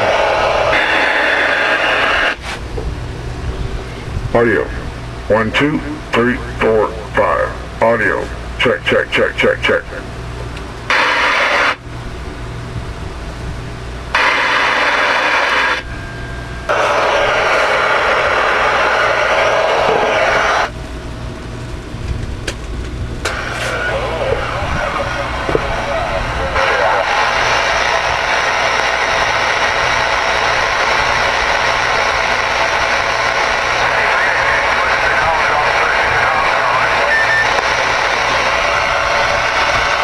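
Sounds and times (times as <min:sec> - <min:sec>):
radio static hiss: 0:00.0 - 0:02.7, 0:03.8 - 0:11.9, 0:14.1 - 0:15.9, 0:16.7 - 0:20.8, 0:23.2 - 0:40.0
low hum: 0:00.0 - 0:40.0.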